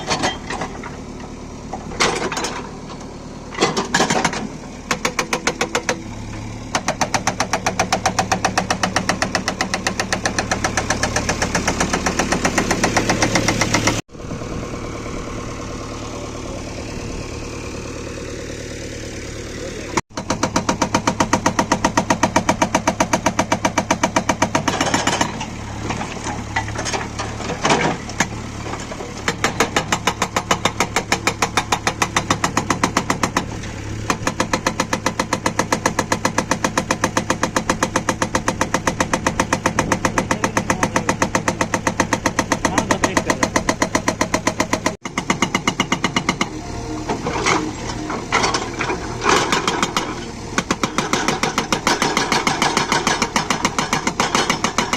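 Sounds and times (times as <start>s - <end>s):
diesel engine running: 0.0s - 54.9s
hydraulic breaker hammering: 3.6s - 14.0s, 20.1s - 54.9s.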